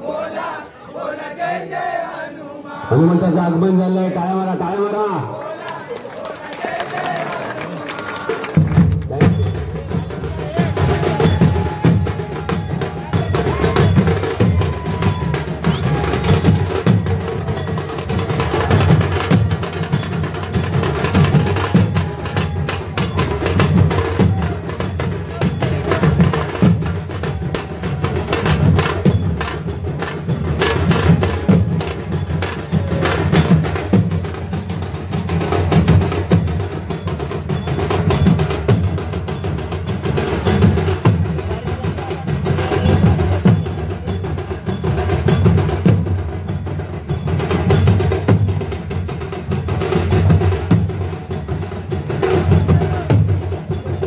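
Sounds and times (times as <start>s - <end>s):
drums played in fast strokes: 8.0s - 54.0s.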